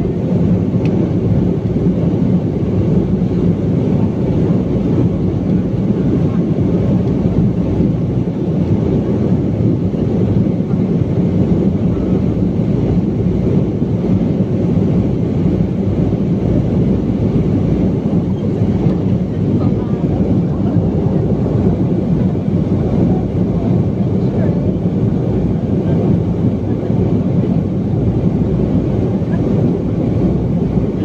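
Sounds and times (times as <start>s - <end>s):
jet airliner low rumble: 0.0s - 31.0s.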